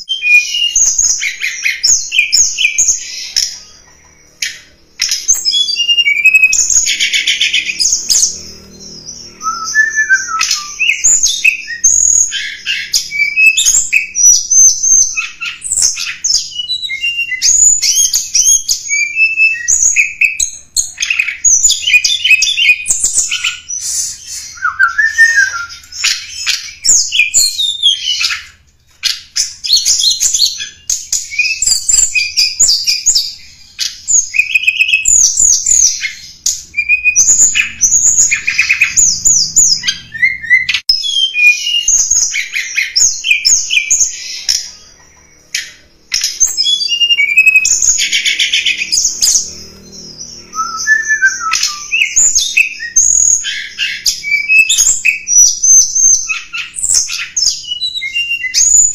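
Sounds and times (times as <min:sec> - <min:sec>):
bird chirps and trills: 0:00.0 - 0:58.9.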